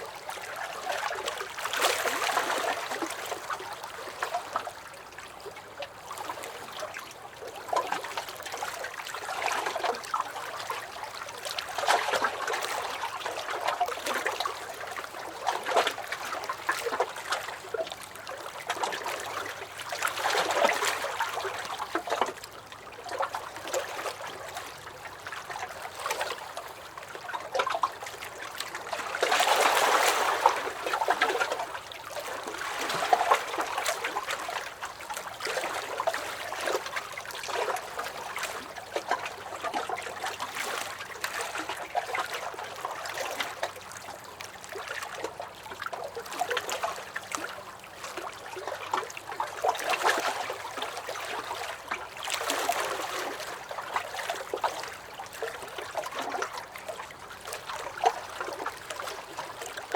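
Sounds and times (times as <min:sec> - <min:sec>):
waves lapping against a dock: 0:00.0 - 0:59.9.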